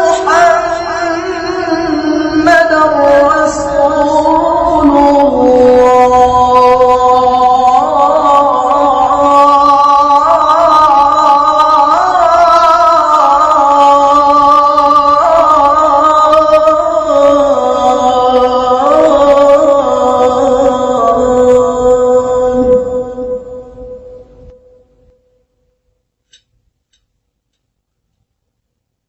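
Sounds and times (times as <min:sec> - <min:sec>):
man chanting call to prayer: 0:00.0 - 0:23.6.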